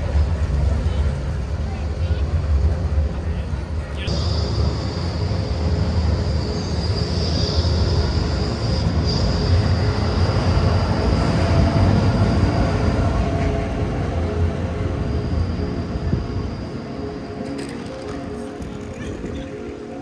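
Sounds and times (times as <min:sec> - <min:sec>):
high tram whine: 0:00.0 - 0:20.0
tram wheels rumbling on rails: 0:00.0 - 0:20.0.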